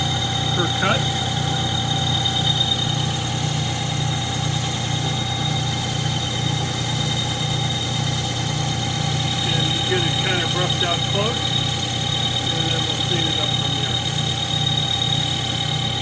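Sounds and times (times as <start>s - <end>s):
high whine: 0.0s - 16.0s
metal lathe motor hum: 0.0s - 16.0s.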